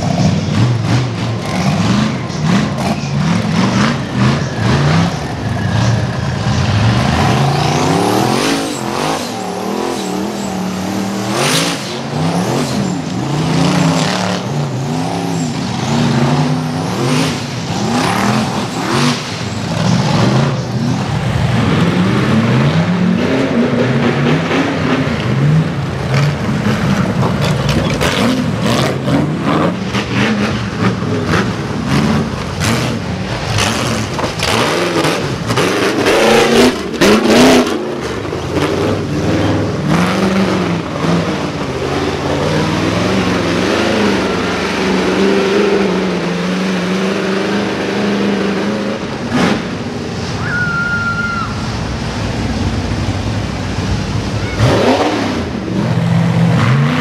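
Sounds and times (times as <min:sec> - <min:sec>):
buggy engine revving hard: 0:00.0 - 0:50.4, 0:51.4 - 0:57.0.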